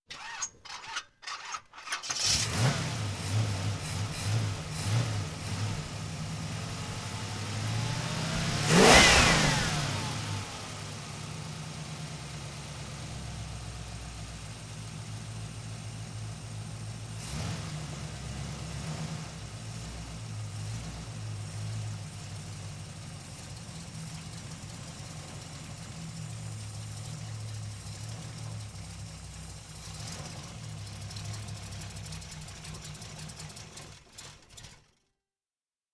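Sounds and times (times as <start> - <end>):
car engine starting and revving: 1.9 - 13.7, 16.6 - 34.9.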